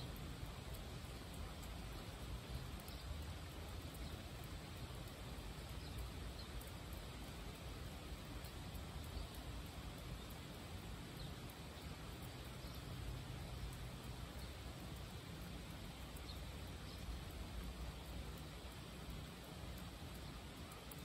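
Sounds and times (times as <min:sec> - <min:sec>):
rain falling on foliage: 0:00.0 - 0:21.0.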